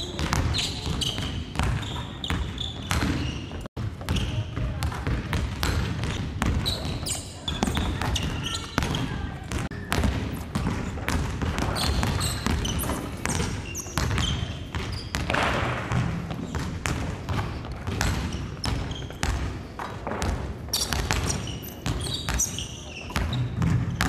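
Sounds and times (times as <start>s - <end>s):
basketballs bouncing on wooden floor: 0.0s - 24.0s
sneaker squeaks: 0.0s - 24.0s.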